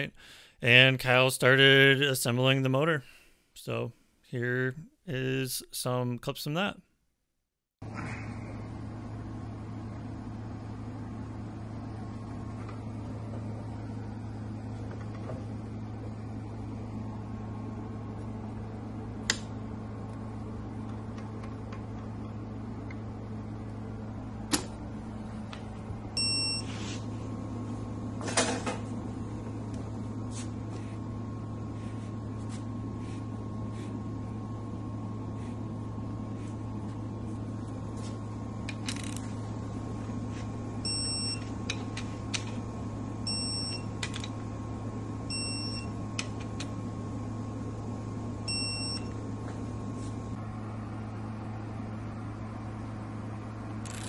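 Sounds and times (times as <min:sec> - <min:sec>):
steady hum: 0:07.8 - 0:54.0.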